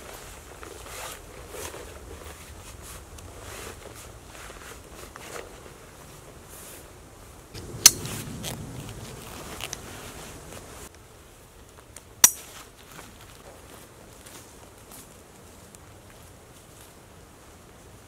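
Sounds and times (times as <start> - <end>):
rustling of straps and clothing: 0.0 - 10.9, 11.7 - 18.0.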